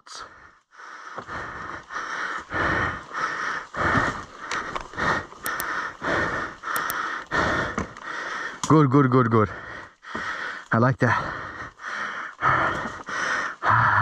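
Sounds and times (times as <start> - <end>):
person breathing hard: 0.1 - 8.6, 9.5 - 14.0.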